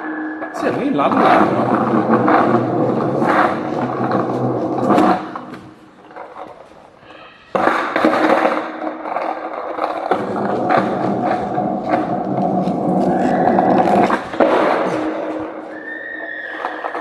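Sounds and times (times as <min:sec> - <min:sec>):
skateboard wheels rolling on pavement: 0:00.4 - 0:17.0
skateboard knocks: 0:00.6 - 0:06.8, 0:07.5 - 0:15.8.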